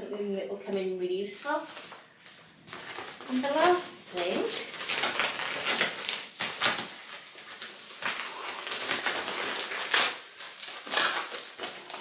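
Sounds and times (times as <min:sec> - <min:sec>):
plastic bag rustling and crinkling: 0:01.5 - 0:12.0.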